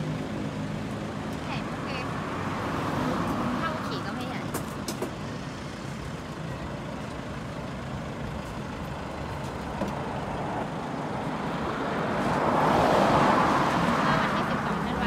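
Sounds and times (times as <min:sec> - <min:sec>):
passing vehicles hum: 0:00.0 - 0:15.0
vehicle approaching: 0:00.0 - 0:15.0.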